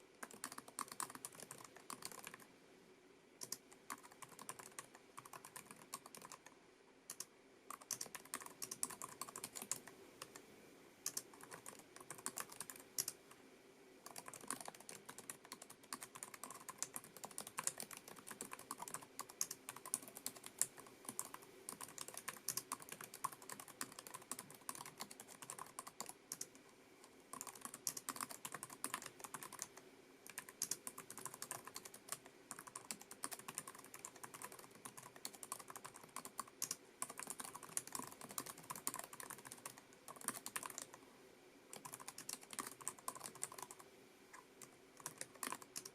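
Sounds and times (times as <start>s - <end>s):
keyboard keys clicking: 0.2s - 2.4s, 3.4s - 6.4s, 7.1s - 10.3s, 11.1s - 13.2s, 14.1s - 26.5s, 27.3s - 29.7s, 30.3s - 40.9s, 41.7s - 43.8s, 45.0s - 45.9s.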